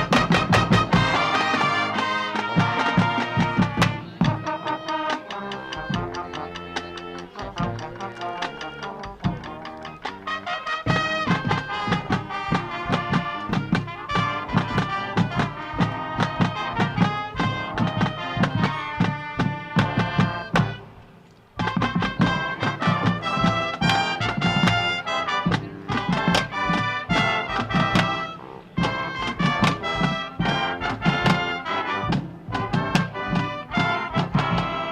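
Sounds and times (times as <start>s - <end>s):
marching band playing: 0.0s - 34.9s
trumpets and trombones: 0.0s - 34.9s.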